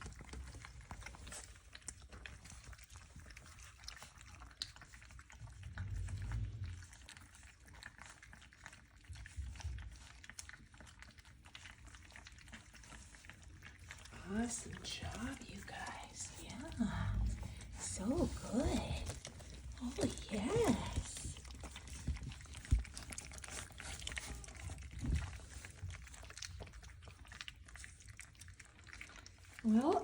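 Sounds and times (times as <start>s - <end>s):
puppies lapping and slurping: 0.0s - 30.0s.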